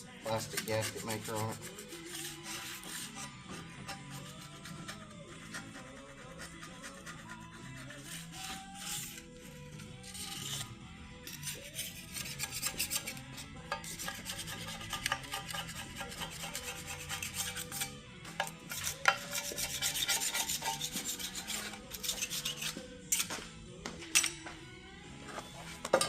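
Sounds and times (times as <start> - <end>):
hand tool scraping metal: 0.3 - 23.4, 25.3 - 26.0.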